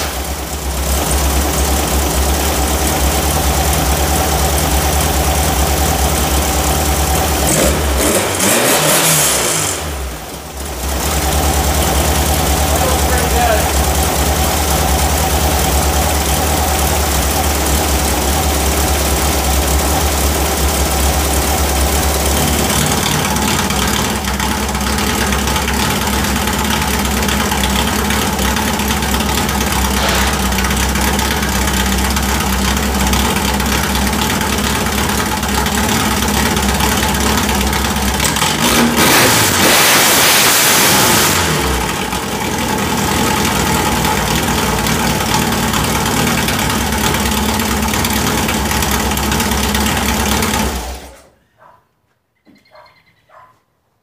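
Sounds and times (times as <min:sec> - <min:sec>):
car engine idling and revving: 0:00.0 - 0:51.3.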